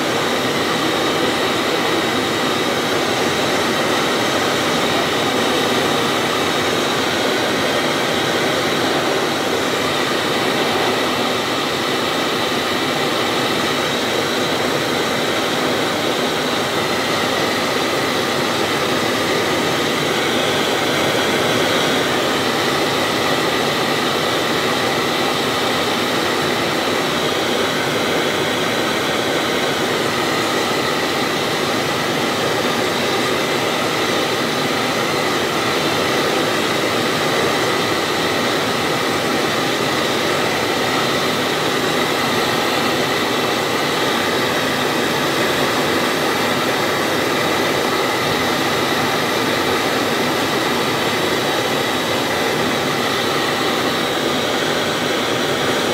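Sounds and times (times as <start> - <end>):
gas blowtorch hissing: 0.0 - 55.9.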